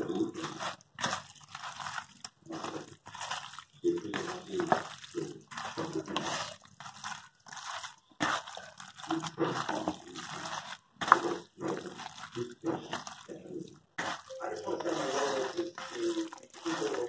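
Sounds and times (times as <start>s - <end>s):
hand kneading wet meat: 0.0s - 17.0s.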